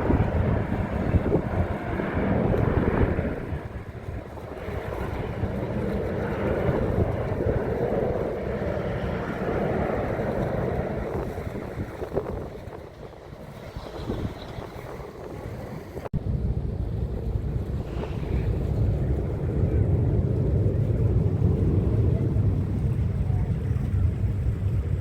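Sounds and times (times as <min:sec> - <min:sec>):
distant airliner engine rumbling: 0:00.0 - 0:25.0
wind buffeting microphone: 0:00.0 - 0:25.0.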